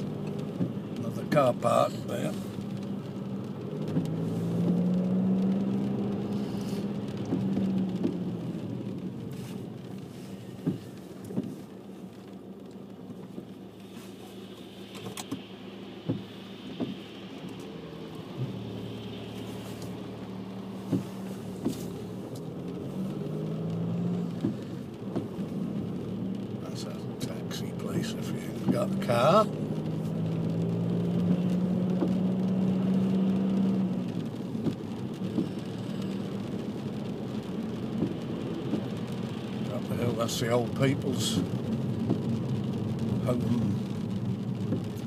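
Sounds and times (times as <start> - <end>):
car engine hum: 0.0 - 45.0
high tyre hiss on wet road: 0.0 - 45.0
road noise: 0.0 - 45.0.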